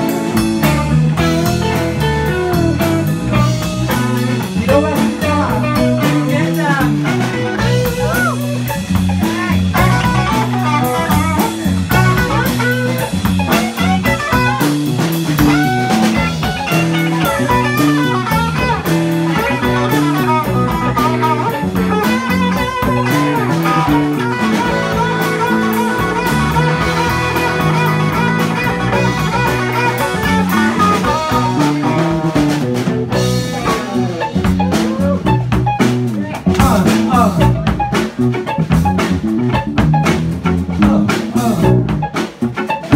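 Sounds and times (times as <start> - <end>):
blues-rock band playing: 0.0 - 42.9
lead guitar with bent notes: 0.0 - 42.9.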